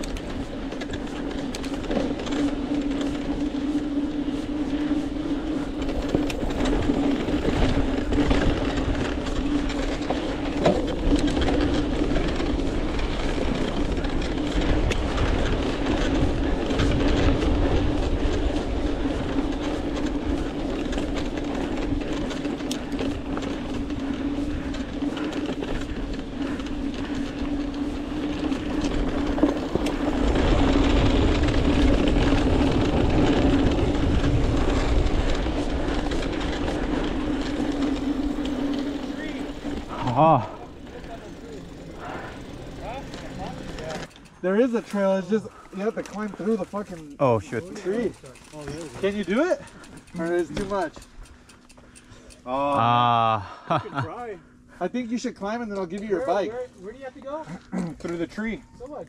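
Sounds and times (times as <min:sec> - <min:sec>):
mountain bike rolling on dirt: 0:00.0 - 0:59.0.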